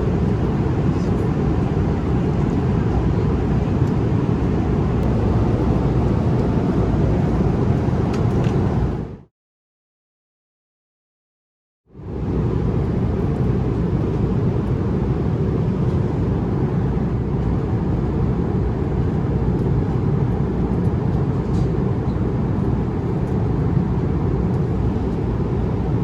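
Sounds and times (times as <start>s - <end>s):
airplane cabin engine roar: 0.0s - 9.3s, 11.9s - 26.0s.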